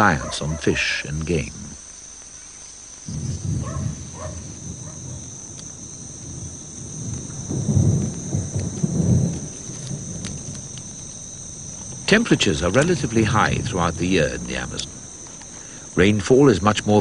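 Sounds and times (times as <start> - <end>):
insects droning: 0.0 - 17.0
distant thunder rumbling: 3.1 - 17.0.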